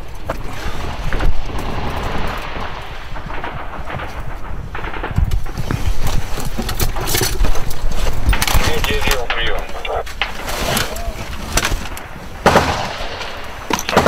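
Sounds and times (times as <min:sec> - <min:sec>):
low rumble: 0:00.0 - 0:13.7.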